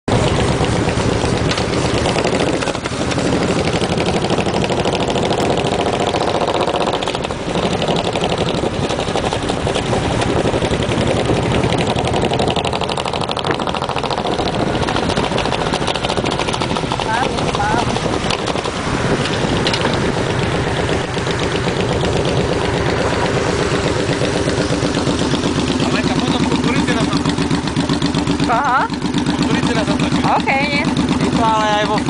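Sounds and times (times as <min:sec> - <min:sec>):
motorcycle engine running: 0:00.0 - 0:32.0
road noise: 0:00.0 - 0:32.0
wind: 0:00.0 - 0:32.0.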